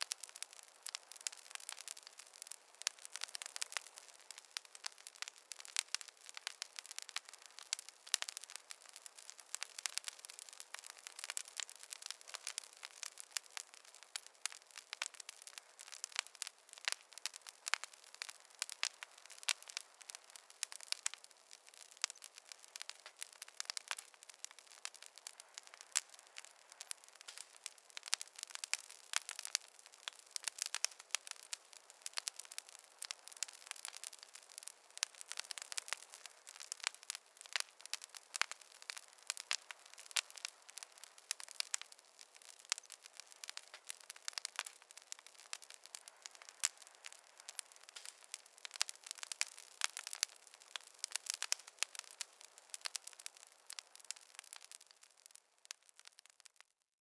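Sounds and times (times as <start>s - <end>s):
campfire crackling: 0.0s - 56.7s.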